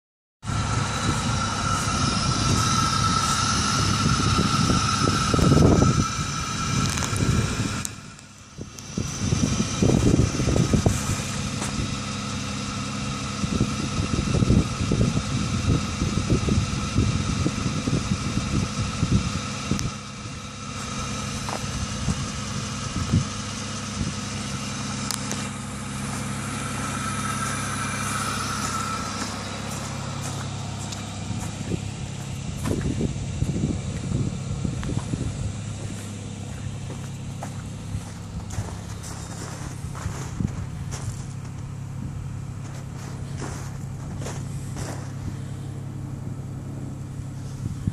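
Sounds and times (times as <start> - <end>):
car engine idling: 0.4 - 47.9
low rumbles and thumps: 0.4 - 47.9.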